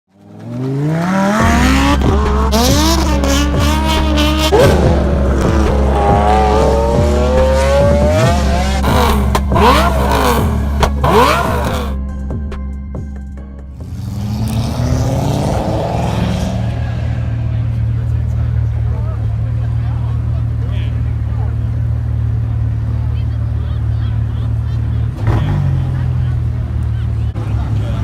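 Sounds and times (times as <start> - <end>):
car engines revving hard: 0.1 - 12.0, 13.8 - 28.0
steady low drone: 1.3 - 28.0.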